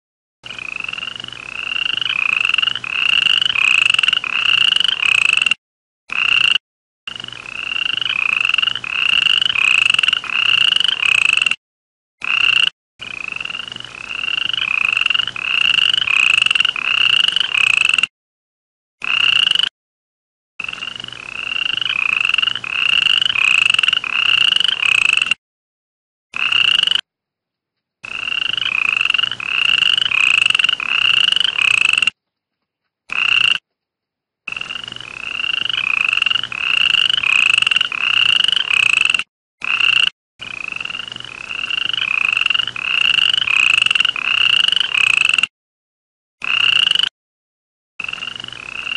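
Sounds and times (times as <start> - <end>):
frog croaking: 0.4 - 11.6, 12.2 - 18.1, 19.0 - 19.7, 20.6 - 25.4, 26.3 - 27.1, 28.0 - 32.2, 33.1 - 33.7, 34.5 - 45.5, 46.4 - 47.1, 48.0 - 48.9.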